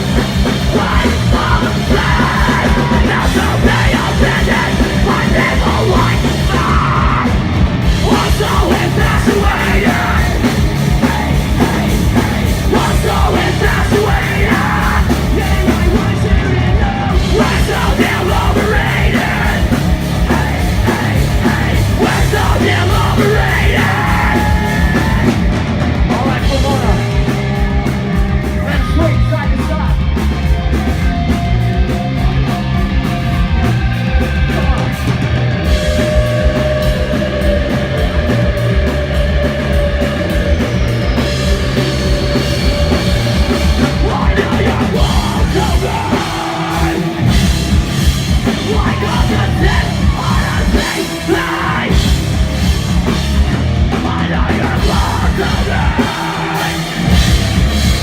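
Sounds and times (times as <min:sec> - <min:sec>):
live punk rock band: 0:00.0 - 0:58.0.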